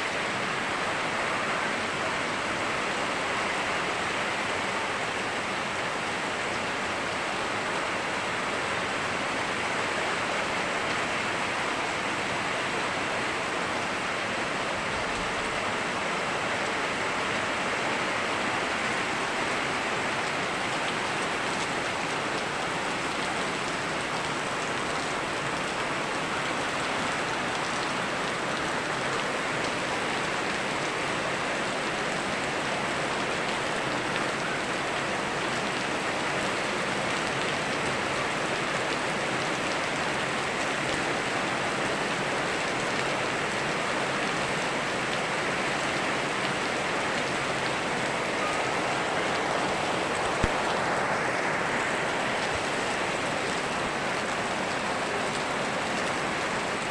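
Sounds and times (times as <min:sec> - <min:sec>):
rain falling: 0:00.0 - 0:56.9
river flowing: 0:00.0 - 0:56.9.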